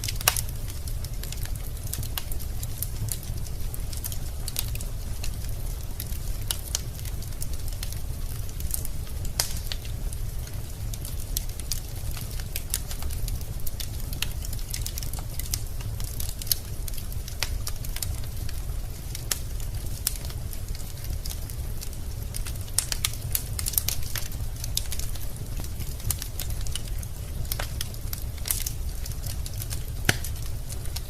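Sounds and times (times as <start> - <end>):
logs crackling and popping: 0.0 - 31.0
low rumble of fire: 0.0 - 31.0.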